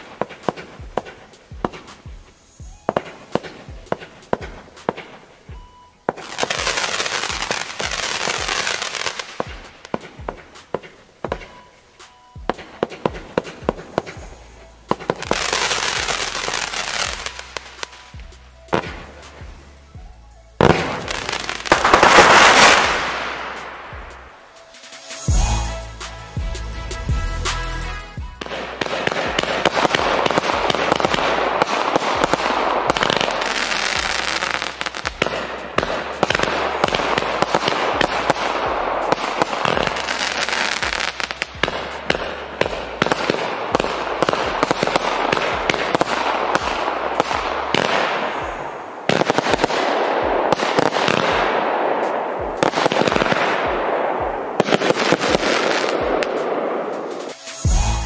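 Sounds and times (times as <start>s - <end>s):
fireworks launching and bursting: 0.0s - 20.0s, 20.6s - 26.4s, 28.3s - 58.0s.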